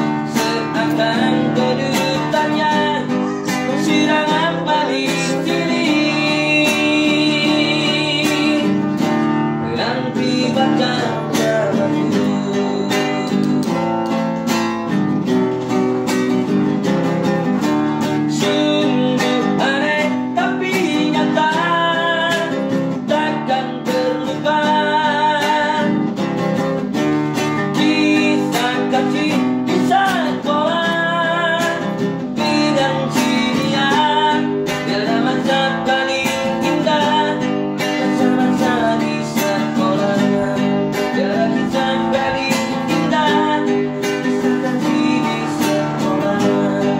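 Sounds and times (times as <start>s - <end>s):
person singing: 0.0s - 14.6s, 15.5s - 46.9s
acoustic guitar strumming: 0.0s - 46.9s.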